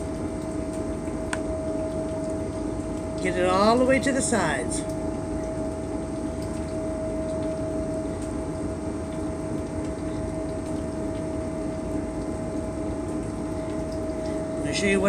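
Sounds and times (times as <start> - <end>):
machinery low rumble: 0.0 - 15.0
machinery whine: 0.0 - 15.0.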